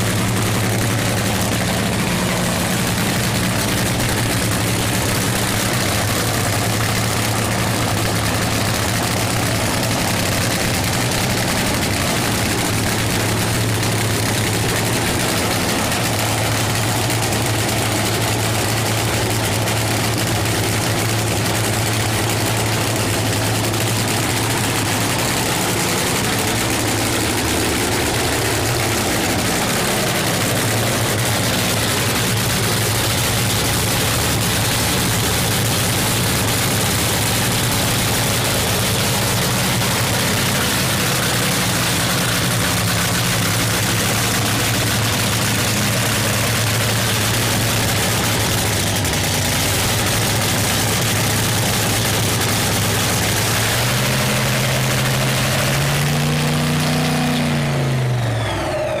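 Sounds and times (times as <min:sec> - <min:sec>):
drag car engine idling: 0:00.0 - 0:59.0.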